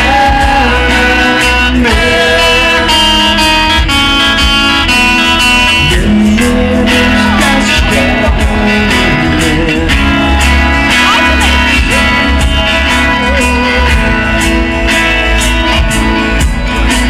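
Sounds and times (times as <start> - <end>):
live acoustic guitar band music: 0.0 - 17.0.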